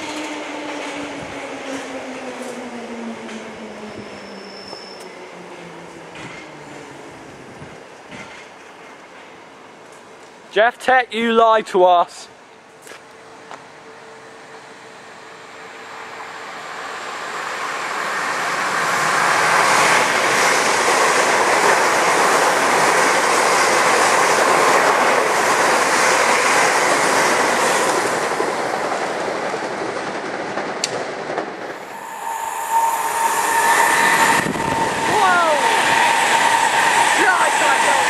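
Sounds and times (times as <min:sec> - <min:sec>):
train steady tone: 0:00.0 - 0:10.4, 0:12.4 - 0:29.0, 0:31.5 - 0:38.0
train wheels rushing on rail: 0:00.0 - 0:10.5, 0:12.7 - 0:38.0.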